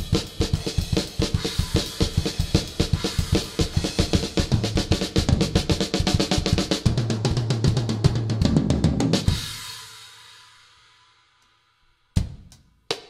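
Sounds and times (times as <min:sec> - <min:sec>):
drum kit playing: 0:00.0 - 0:11.0, 0:12.2 - 0:13.0.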